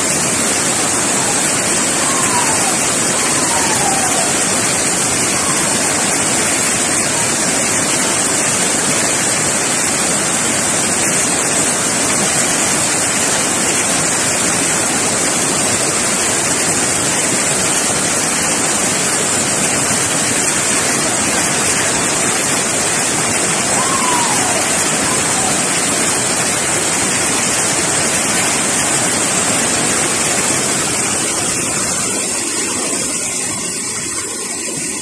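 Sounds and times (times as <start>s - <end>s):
waterfall rushing onto boulders: 0.0s - 35.0s.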